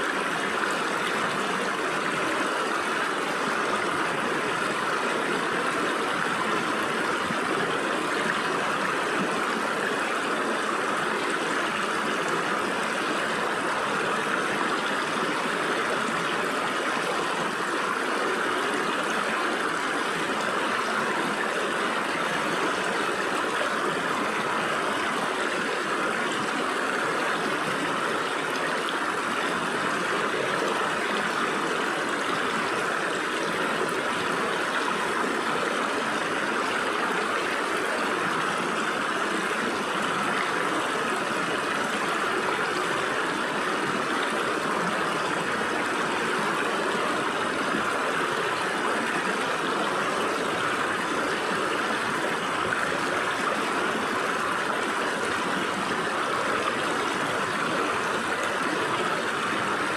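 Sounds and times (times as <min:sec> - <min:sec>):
stream water flowing over rocks: 0:00.0 - 0:59.9.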